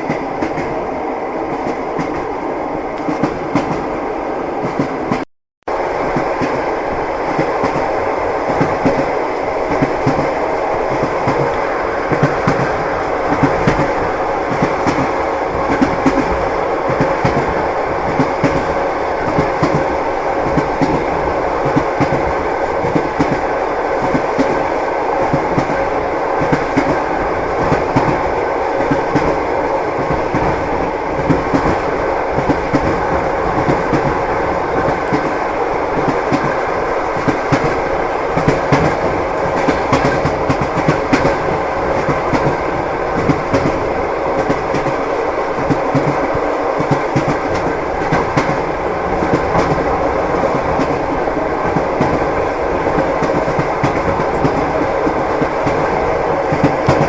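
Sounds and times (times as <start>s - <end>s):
train wheels clacking on rails: 0.0s - 0.9s, 1.5s - 4.0s, 4.6s - 57.0s.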